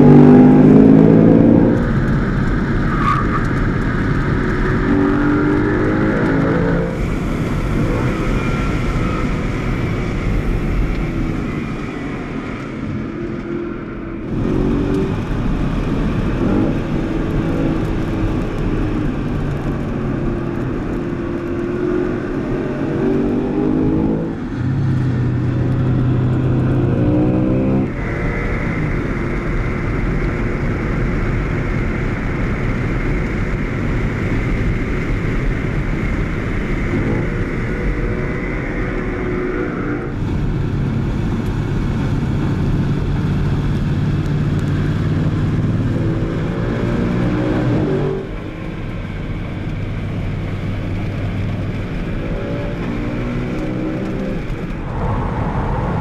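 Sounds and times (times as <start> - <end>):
car engine revving at speed: 0.0 - 56.0.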